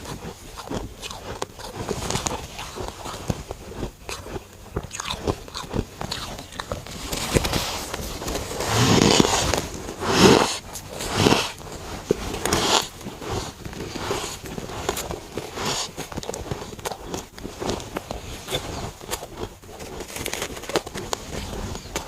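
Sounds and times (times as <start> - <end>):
person crunching frost: 0.0 - 22.0.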